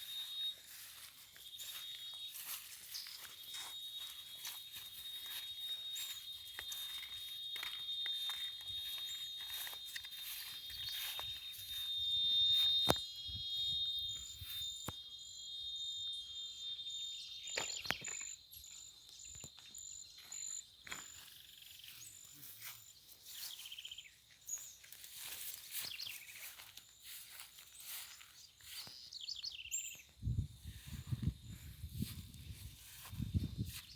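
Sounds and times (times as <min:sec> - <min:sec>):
insects chirping: 0:00.0 - 0:33.9.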